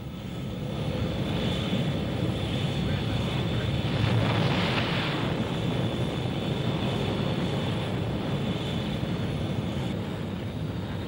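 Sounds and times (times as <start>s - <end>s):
jet engines roaring with whine: 0.0s - 11.0s.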